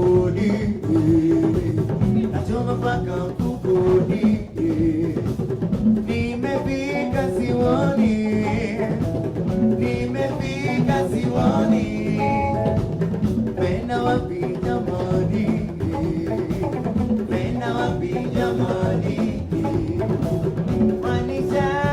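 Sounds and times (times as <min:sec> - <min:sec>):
drum kit: 0:00.0 - 0:21.9
electric guitar: 0:00.0 - 0:21.9
person singing: 0:00.0 - 0:21.9.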